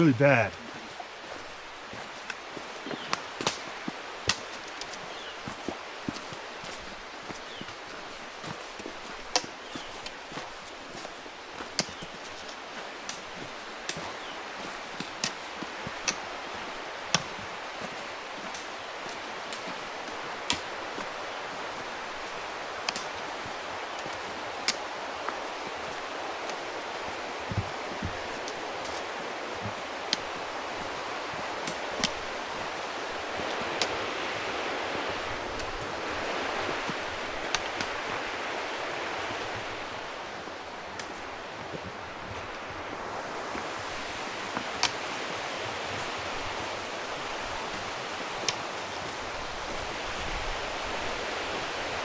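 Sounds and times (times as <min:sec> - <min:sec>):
rushing outdoor noise: 0:00.0 - 0:52.0
steady background hiss: 0:00.0 - 0:52.0
footsteps on stone: 0:00.5 - 0:49.8.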